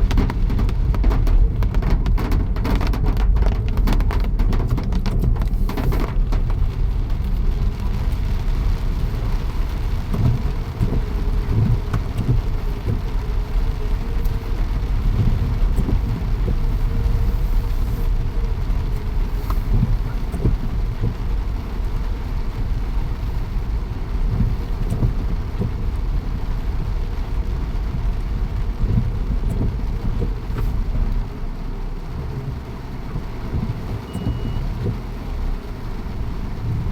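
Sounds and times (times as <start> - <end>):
rain: 0.0 - 36.9
vehicle engine rumbling: 0.0 - 36.9.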